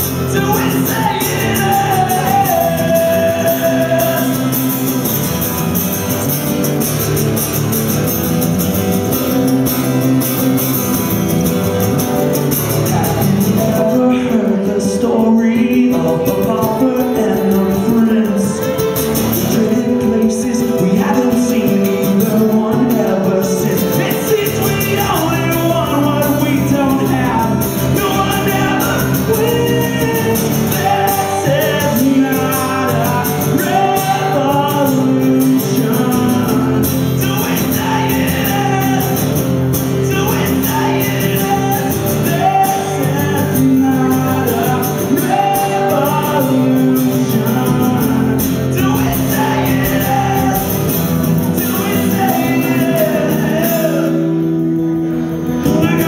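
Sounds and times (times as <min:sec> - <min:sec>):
man singing into a microphone: 0:00.0 - 0:05.1, 0:12.7 - 0:56.0
amplified acoustic guitar: 0:00.0 - 0:56.0.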